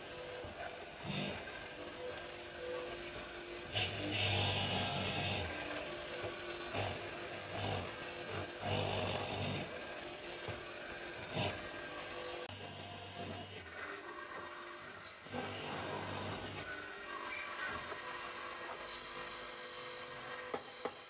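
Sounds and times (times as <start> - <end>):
power tool cutting wood: 0.0 - 21.0.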